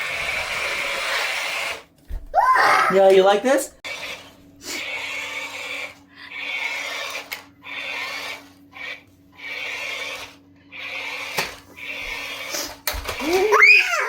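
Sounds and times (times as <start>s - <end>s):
toy spider gear motor running: 0.0s - 1.9s, 3.8s - 14.0s.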